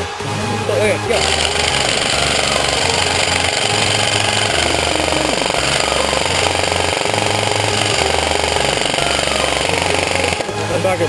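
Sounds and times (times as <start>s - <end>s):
electronic dance music: 1.1s - 10.5s
airsoft rifle rattling fire: 1.2s - 10.5s.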